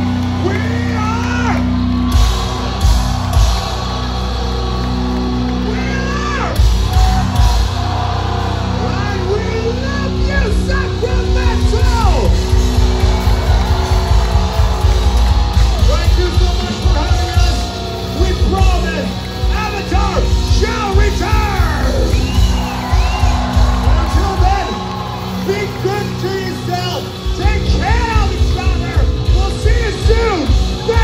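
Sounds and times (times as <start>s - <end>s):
crowd shouting: 0.0s - 26.8s.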